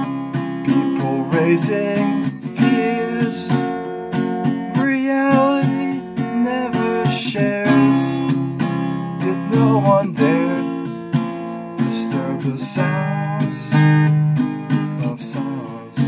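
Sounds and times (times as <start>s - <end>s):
man singing: 0.0s - 3.8s, 4.7s - 11.1s, 11.7s - 14.2s, 14.8s - 16.0s
acoustic guitar strumming: 0.0s - 16.0s.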